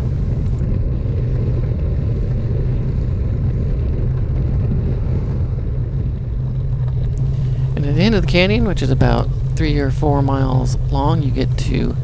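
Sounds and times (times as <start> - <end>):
road and tyre noise: 0.0 - 12.0
wind rushing over microphone: 0.0 - 12.0.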